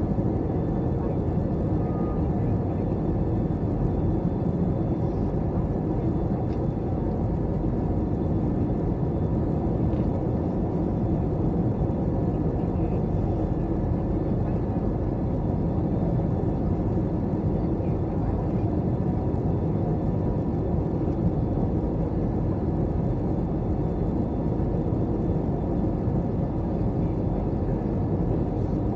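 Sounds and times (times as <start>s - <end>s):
airplane cabin rumble: 0.0s - 28.9s.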